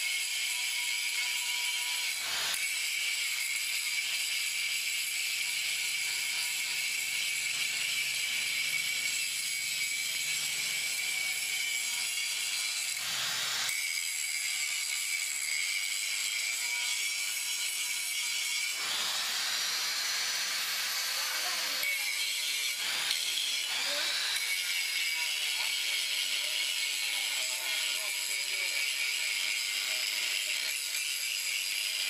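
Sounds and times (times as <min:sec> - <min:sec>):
angle grinder whining: 0:00.0 - 0:32.0
gas welding torch hissing: 0:01.2 - 0:31.6.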